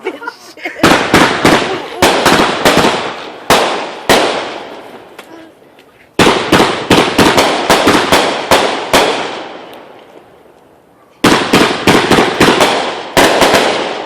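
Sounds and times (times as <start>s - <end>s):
firework bangs: 0.7s - 5.2s, 6.2s - 10.4s, 11.2s - 14.0s.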